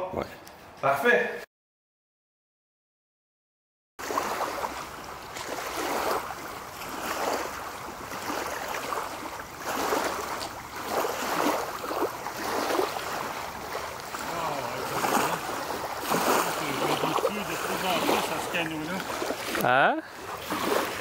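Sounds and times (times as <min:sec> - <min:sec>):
water lapping around a canoe: 0:04.0 - 0:21.0.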